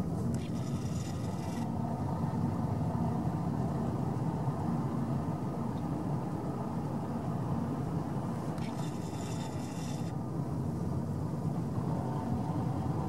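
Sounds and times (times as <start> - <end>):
car engine and tyre rumble: 0.0 - 13.0
faint hum: 0.0 - 13.0.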